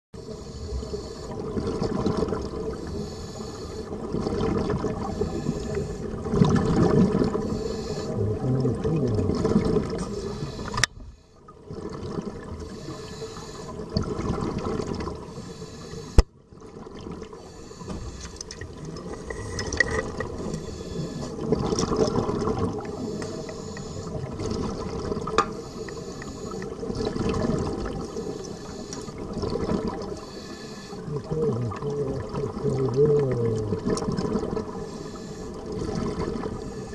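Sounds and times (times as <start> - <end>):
water sloshing and rushing: 0.2 - 36.9.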